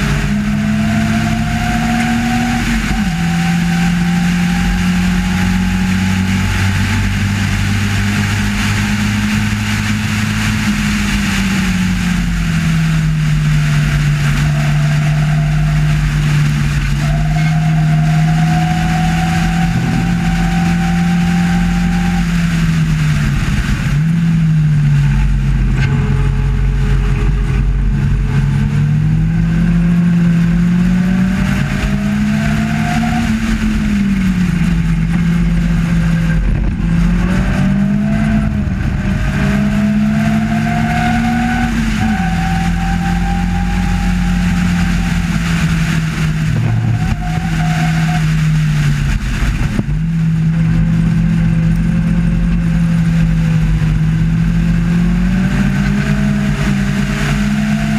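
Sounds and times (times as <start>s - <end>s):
race car engine at high revs: 0.0s - 57.9s
steady rushing noise: 0.0s - 57.9s.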